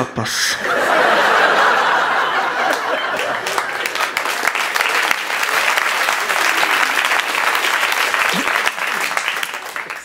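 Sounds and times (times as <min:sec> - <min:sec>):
audience laughing: 0:00.6 - 0:09.9
audience applauding: 0:00.9 - 0:10.0.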